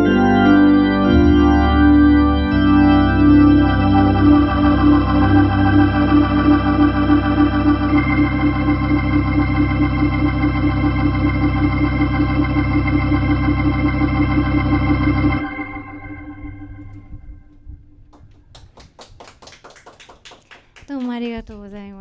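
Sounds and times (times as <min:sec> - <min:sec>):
organ chord over pedal bass: 0:00.0 - 0:17.7.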